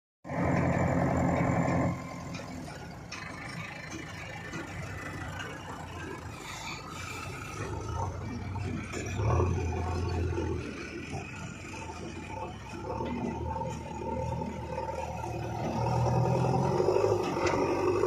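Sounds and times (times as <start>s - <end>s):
diesel engine working: 0.3s - 18.0s.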